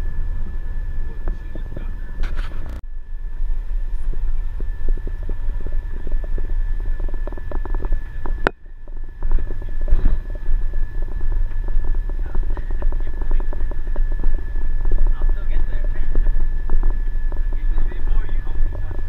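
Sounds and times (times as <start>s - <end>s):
faint high whine: 0.0s - 19.0s
wind rumble: 0.0s - 19.0s.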